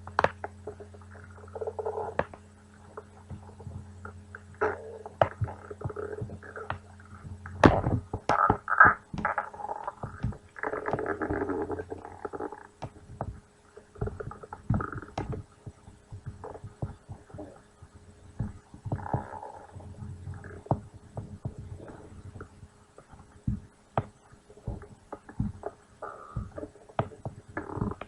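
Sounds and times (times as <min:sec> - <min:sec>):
stomach growling and gurgling: 0:00.0 - 0:28.0.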